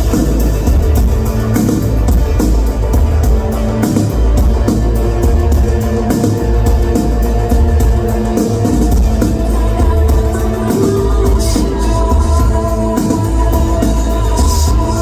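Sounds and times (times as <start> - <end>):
booming bass: 0.0 - 15.0
steady drum beat: 0.0 - 15.0.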